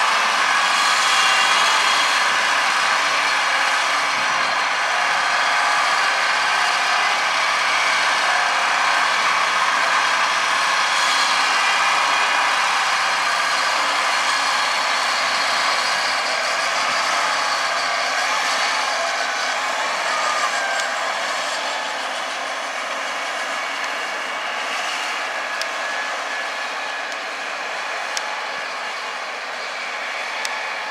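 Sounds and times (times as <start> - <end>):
crawler tractor engine and tracks: 0.0 - 30.9.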